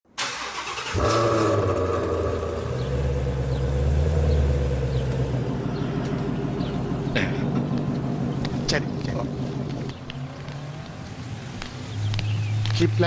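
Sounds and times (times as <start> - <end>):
car engine running at low revs: 0.9 - 13.0.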